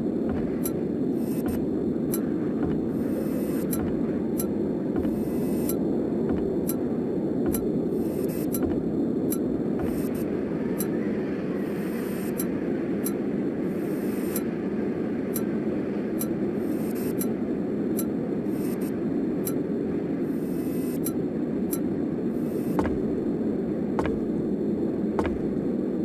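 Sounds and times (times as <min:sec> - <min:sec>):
low rumbling drone: 0:00.0 - 0:26.0.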